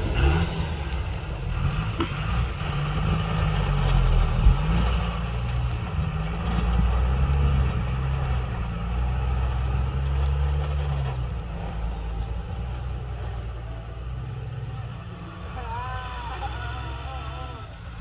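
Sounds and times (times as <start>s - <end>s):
backhoe loader diesel engine: 0.0s - 18.0s
dump truck engine pulling away: 0.0s - 18.0s.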